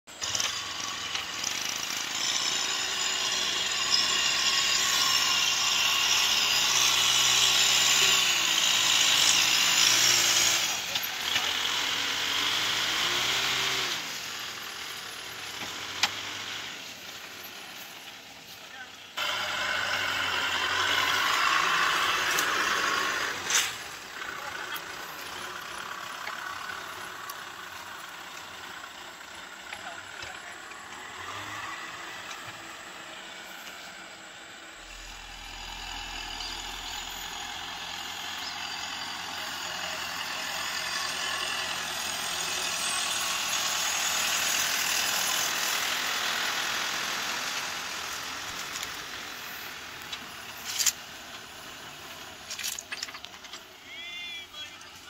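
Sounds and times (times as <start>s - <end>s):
tractor diesel engine under load: 0.0s - 55.0s
trailer rolling: 0.1s - 55.0s.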